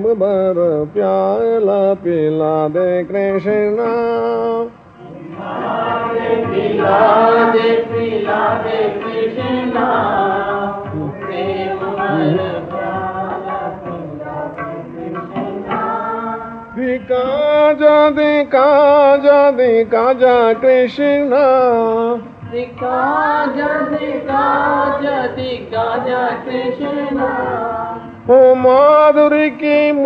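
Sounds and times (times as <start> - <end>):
voices chanting and singing: 5.0 - 30.0.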